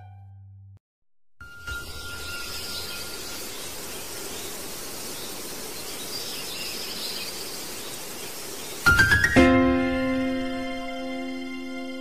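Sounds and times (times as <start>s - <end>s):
steady outdoor hiss: 1.4s - 12.0s.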